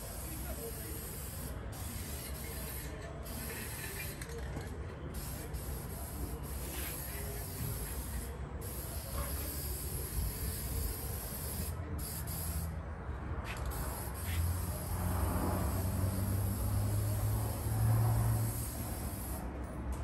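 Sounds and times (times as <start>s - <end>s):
spray paint can hissing: 0.0s - 4.5s, 5.1s - 12.8s, 13.5s - 19.5s.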